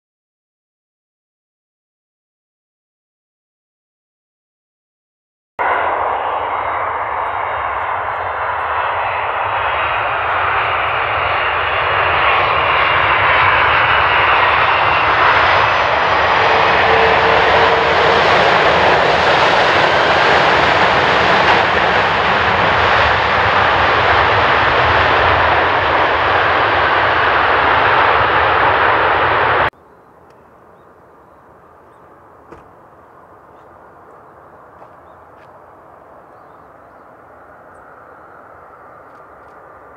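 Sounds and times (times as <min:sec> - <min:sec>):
jet engines running loud: 0:05.6 - 0:39.9.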